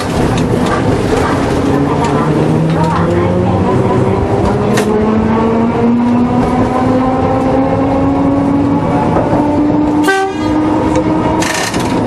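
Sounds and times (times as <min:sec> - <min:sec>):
tram motors whining: 0:00.0 - 0:12.0.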